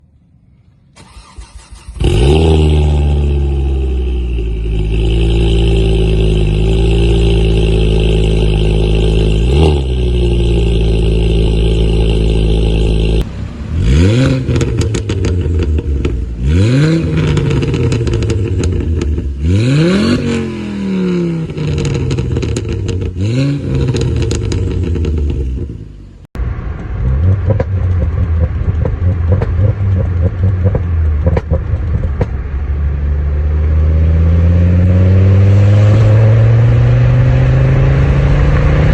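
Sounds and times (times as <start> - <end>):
car engine idling and revving: 0.0 - 38.9
car engine cranking: 0.9 - 26.0, 26.6 - 32.6.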